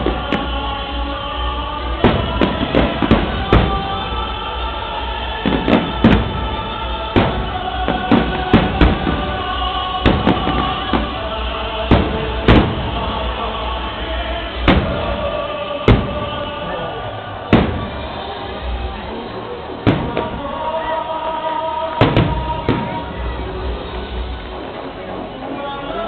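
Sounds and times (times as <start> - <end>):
fireworks bursting: 0.0 - 26.0
loud music: 0.0 - 26.0.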